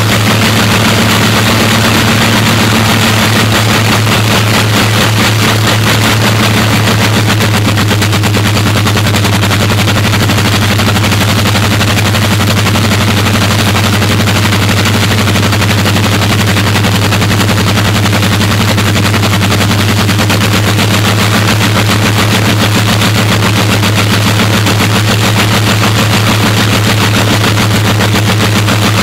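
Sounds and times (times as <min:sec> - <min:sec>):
aircraft engines running: 0:00.0 - 0:29.0.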